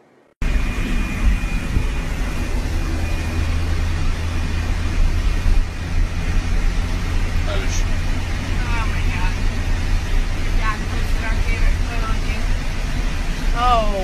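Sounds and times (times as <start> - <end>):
faint high whine: 0.0 - 14.0
car cabin road rumble: 0.4 - 14.0.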